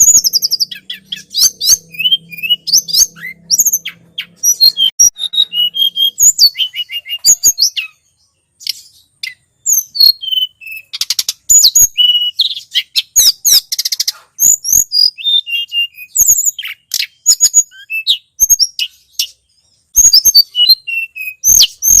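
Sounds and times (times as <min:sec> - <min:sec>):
bird chirps and trills: 0:00.0 - 0:22.0.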